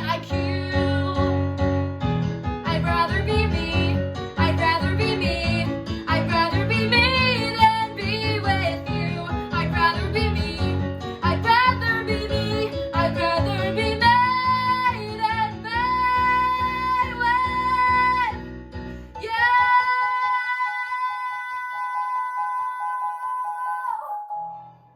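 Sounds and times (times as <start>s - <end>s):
young woman singing: 0.0s - 1.3s, 2.7s - 18.4s, 19.2s - 24.2s.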